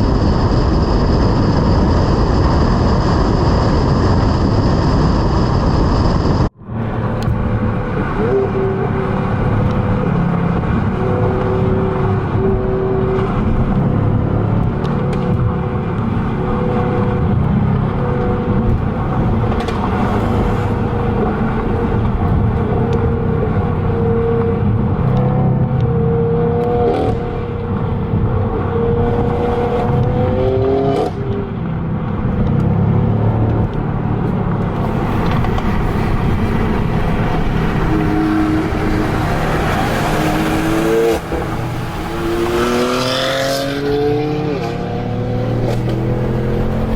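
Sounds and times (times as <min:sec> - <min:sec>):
car engine exhaust drone: 0:00.0 - 0:46.9
road noise: 0:00.0 - 0:46.9.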